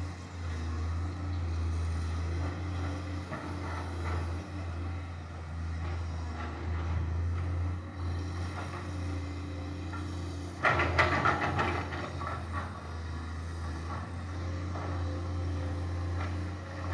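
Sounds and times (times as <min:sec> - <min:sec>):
excavator engine humming: 0:00.0 - 0:16.9.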